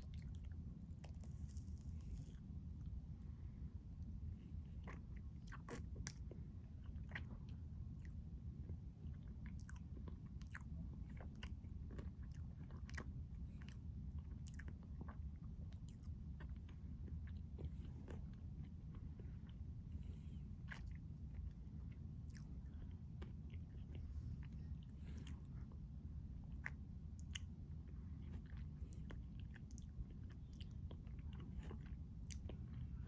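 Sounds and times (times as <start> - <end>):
crunchy chewing: 0.0 - 3.0, 4.0 - 8.2, 9.0 - 25.7, 26.5 - 33.0
steady low hum: 0.0 - 33.0.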